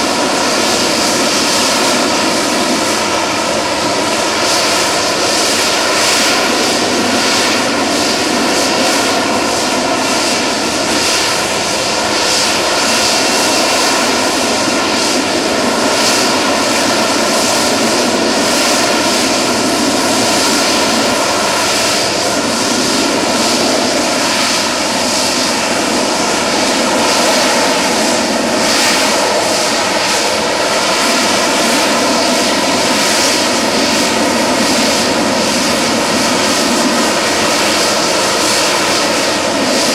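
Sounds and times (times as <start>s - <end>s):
jet engine roaring with whine: 0.0s - 39.9s.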